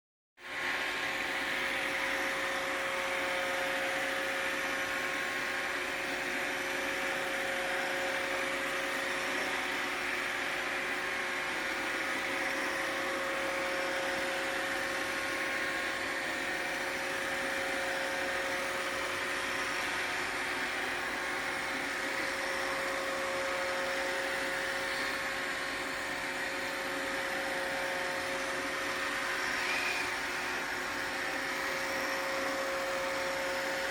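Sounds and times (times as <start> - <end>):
robot vacuum motor whir: 0.5 - 33.9.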